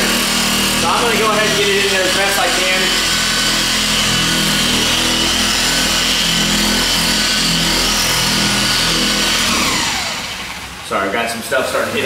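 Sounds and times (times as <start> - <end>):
polisher running: 0.0 - 12.0.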